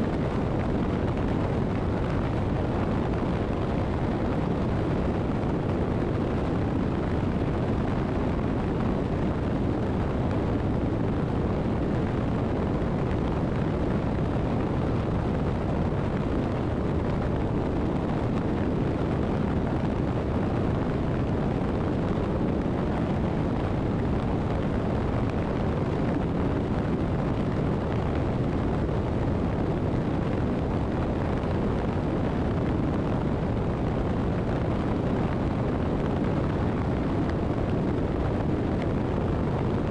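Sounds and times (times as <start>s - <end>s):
motorcycle engine and road noise: 0.0s - 39.9s
wind buffeting microphone: 0.0s - 39.9s.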